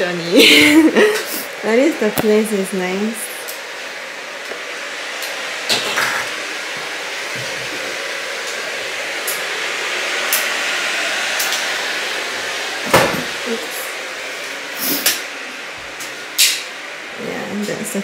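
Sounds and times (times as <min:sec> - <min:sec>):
fan rushing noise: 0:00.0 - 0:18.0.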